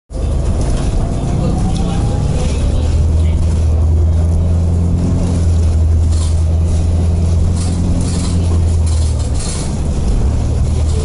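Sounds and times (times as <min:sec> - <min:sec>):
bus engine drone: 0:00.1 - 0:11.0
road noise: 0:00.1 - 0:11.0.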